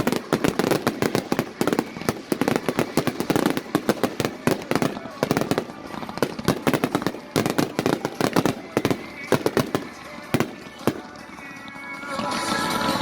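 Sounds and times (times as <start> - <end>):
fireworks bangs and crackles: 0.0 - 12.9
music: 0.0 - 13.0.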